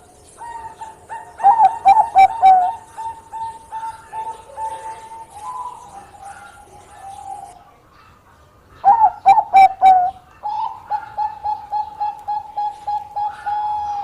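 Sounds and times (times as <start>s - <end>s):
dove cooing: 0.0s - 8.1s, 8.8s - 14.0s.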